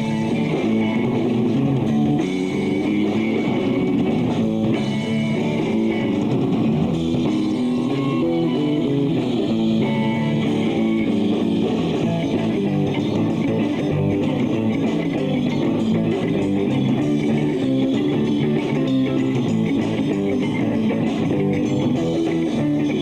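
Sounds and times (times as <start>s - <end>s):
electric bass: 0.0s - 23.0s
strummed electric guitars: 0.0s - 23.0s.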